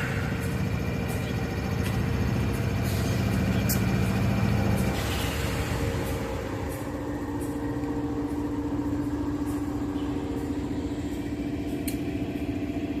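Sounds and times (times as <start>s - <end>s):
freight train rumble: 0.0s - 13.0s
wheels clicking over rail joints: 0.0s - 13.0s.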